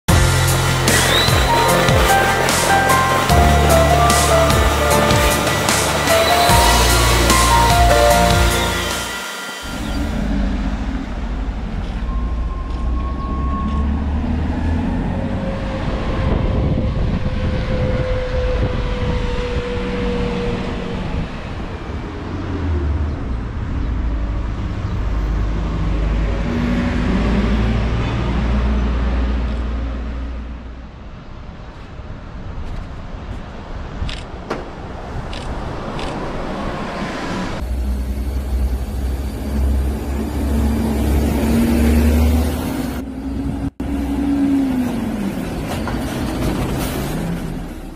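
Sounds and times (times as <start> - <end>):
bus engines rumbling: 0.0 - 47.9.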